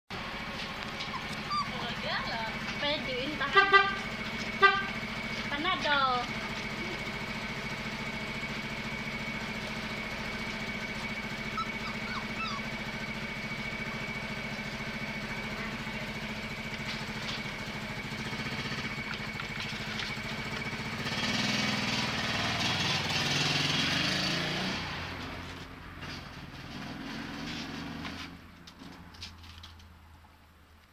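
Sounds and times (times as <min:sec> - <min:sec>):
small engine droning: 0:00.1 - 0:29.6.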